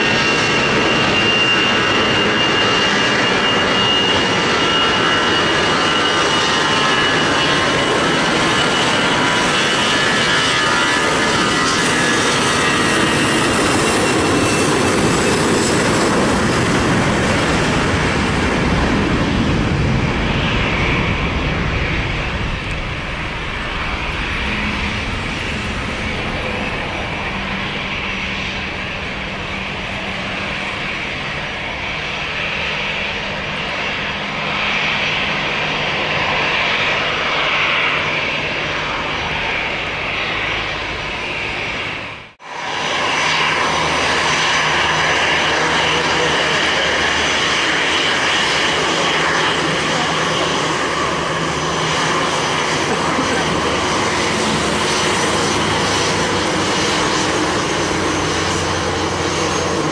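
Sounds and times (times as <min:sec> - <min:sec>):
jet engines at takeoff thrust: 0:00.0 - 0:59.9.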